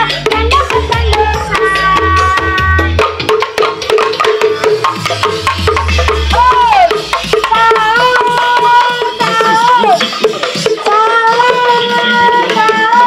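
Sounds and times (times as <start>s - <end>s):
music with fast hand drums: 0.0s - 13.0s.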